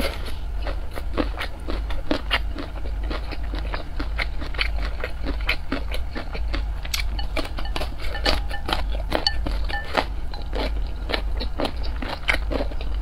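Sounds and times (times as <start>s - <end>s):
wet chewing with mouth clicks: 0.0s - 13.0s.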